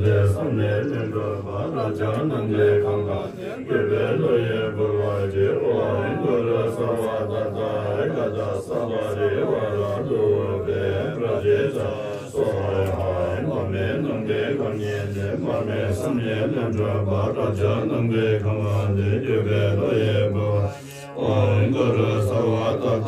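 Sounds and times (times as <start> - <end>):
monks chanting in low voices: 0.0 - 23.0.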